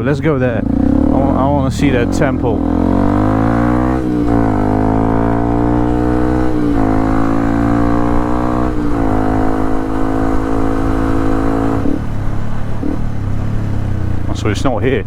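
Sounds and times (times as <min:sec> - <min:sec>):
motorcycle engine shifting gears: 0:00.0 - 0:14.9.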